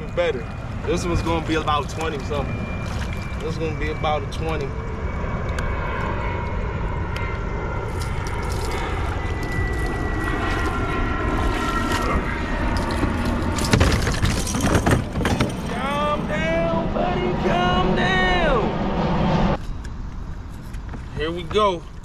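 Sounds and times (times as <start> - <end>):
engine drone: 0.0 - 21.5.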